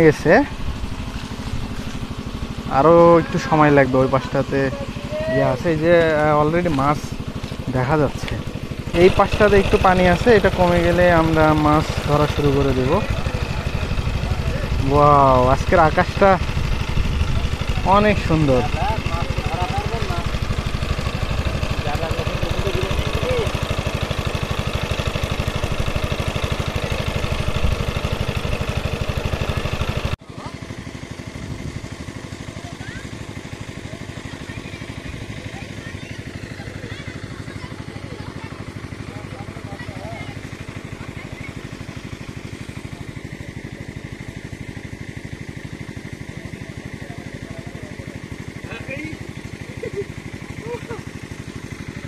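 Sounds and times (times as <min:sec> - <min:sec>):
pump engine chugging: 0:00.0 - 0:52.0.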